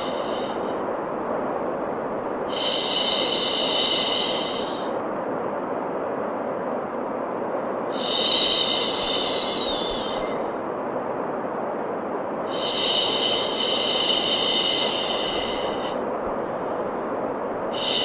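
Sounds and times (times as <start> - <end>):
white noise: 0.0 - 18.0.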